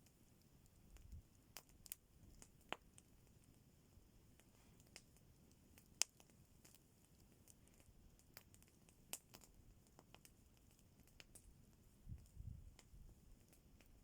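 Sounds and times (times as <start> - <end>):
faint campfire crackling: 0.0 - 14.0.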